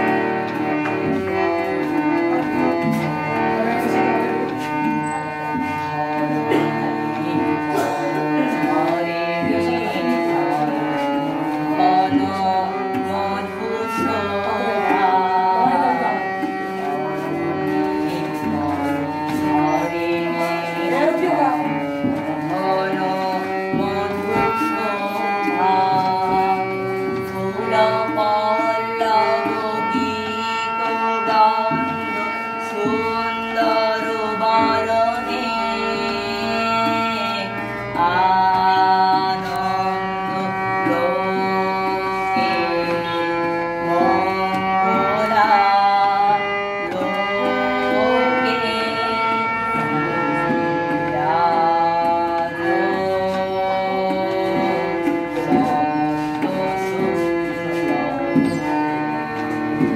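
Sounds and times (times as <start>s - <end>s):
harmonium chords: 0.0s - 59.9s
tabla drumming: 0.0s - 59.9s
boy singing: 0.9s - 59.9s.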